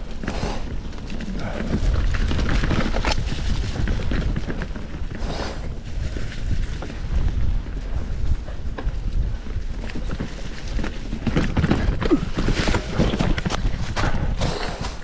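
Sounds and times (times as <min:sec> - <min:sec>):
bike clicks and rattles: 0:00.0 - 0:15.0
wind rumble on microphone: 0:00.0 - 0:15.0.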